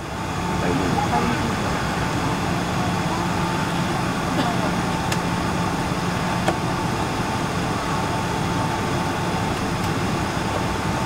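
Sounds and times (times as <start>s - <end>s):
air conditioning: 0.0s - 11.0s
aircraft cabin engine noise: 0.0s - 11.0s
thin steady whine: 0.0s - 11.0s.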